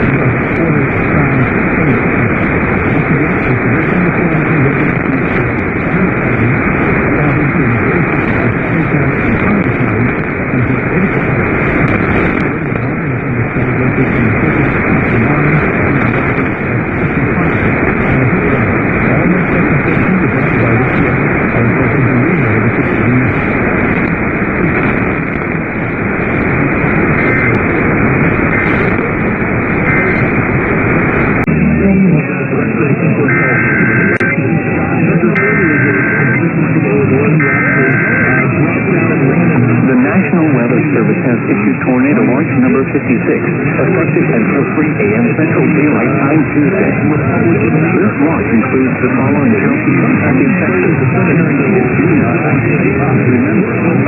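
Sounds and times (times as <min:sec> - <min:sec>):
radio static hissing: 0:00.0 - 0:54.0.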